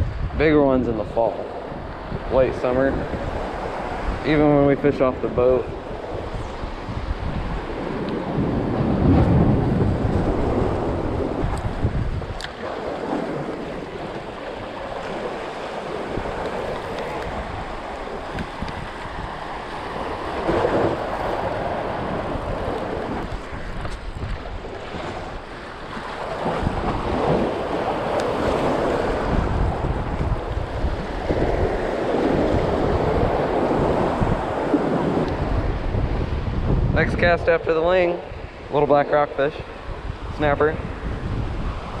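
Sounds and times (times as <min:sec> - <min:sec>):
sea surf washing against rocks: 0:00.0 - 0:42.0
wind buffeting the microphone: 0:00.0 - 0:42.0.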